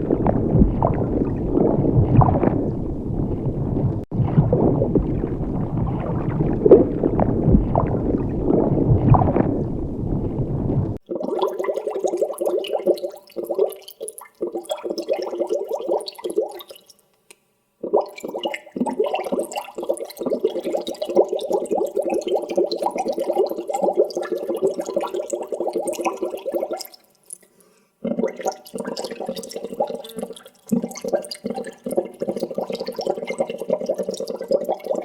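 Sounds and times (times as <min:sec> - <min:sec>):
water bubbling: 0:00.0 - 0:16.8, 0:17.8 - 0:27.1, 0:28.0 - 0:35.0.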